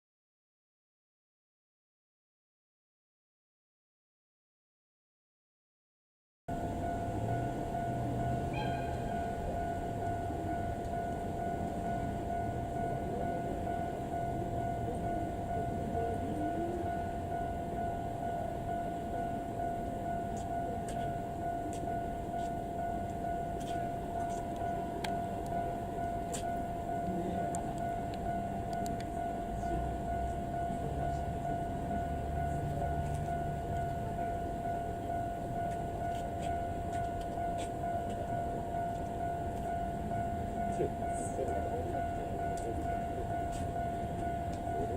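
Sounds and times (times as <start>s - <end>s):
diesel locomotive engine rumble: 6.5s - 44.9s
level crossing alarm tone: 6.5s - 44.9s.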